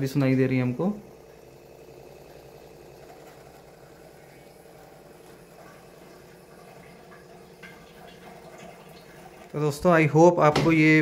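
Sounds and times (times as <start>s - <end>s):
faint pump hum: 0.0s - 11.0s
water flowing through filters: 0.0s - 11.0s.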